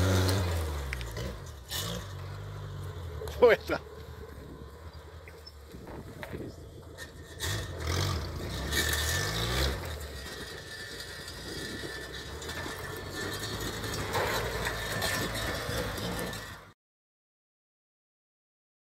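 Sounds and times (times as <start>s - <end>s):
tractor engine running under load: 0.0s - 16.7s.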